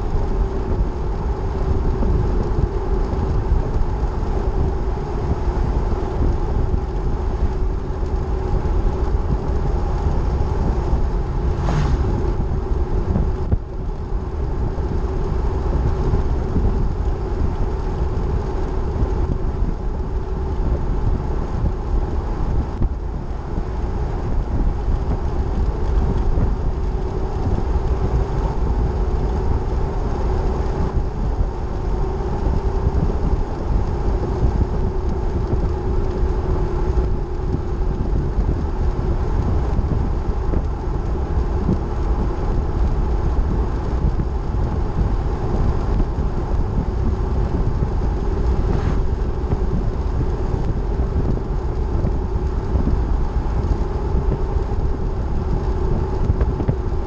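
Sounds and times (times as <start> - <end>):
vehicle engine and tyre drone: 0.0 - 57.0.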